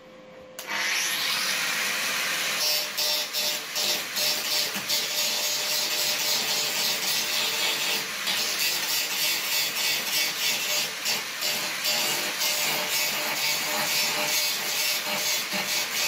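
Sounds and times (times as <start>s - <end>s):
grinder grinding sheet metal: 0.6s - 16.0s.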